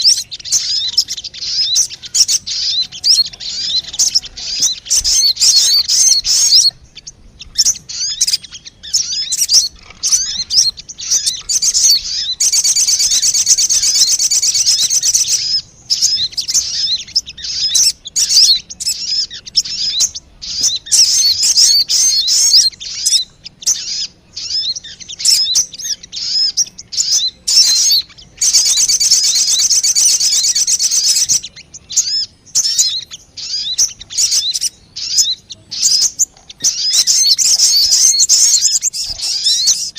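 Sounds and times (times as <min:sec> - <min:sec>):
bird chirping and twittering: 0:00.0 - 0:39.9
bird trills: 0:00.0 - 0:39.9.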